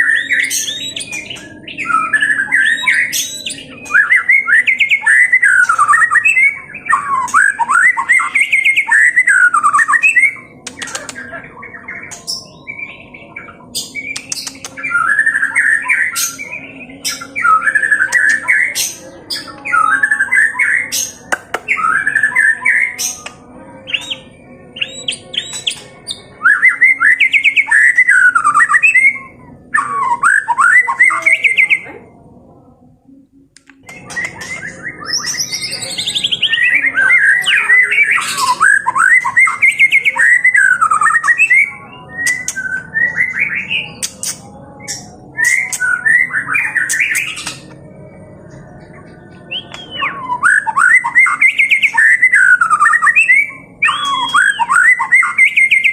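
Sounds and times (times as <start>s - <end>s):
bird singing whistled phrases: 0.0s - 21.0s, 23.9s - 31.9s, 33.8s - 47.7s, 48.9s - 55.9s.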